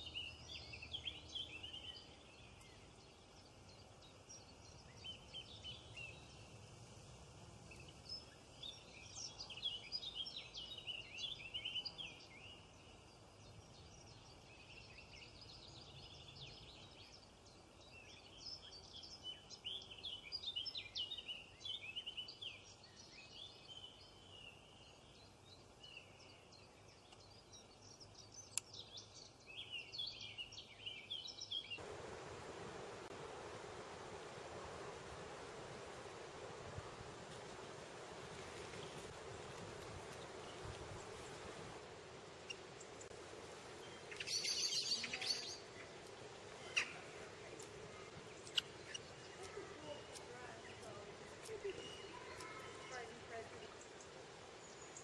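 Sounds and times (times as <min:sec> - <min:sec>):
small birds chirping: 0:00.0 - 0:31.9, 0:38.6 - 0:55.0.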